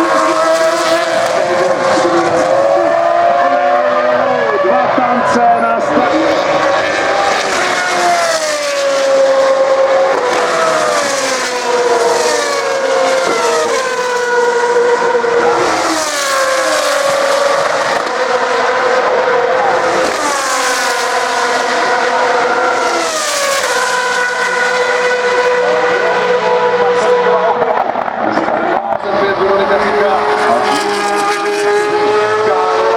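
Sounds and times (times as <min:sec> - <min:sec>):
racing car engines passing: 0:00.0 - 0:32.9.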